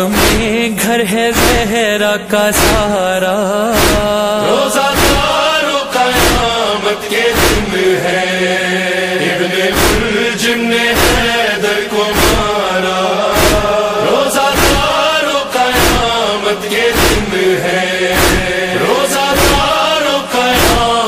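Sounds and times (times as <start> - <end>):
heavy rhythmic thumps: 0.0 - 1.9, 2.5 - 3.0, 3.7 - 8.0, 9.6 - 21.0
voices chanting a lament: 0.0 - 21.0.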